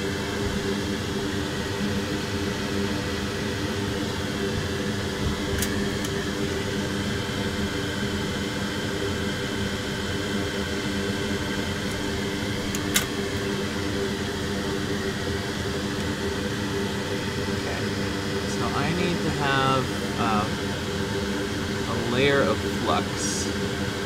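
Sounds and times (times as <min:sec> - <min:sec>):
electric fan whirring: 0:00.0 - 0:24.0.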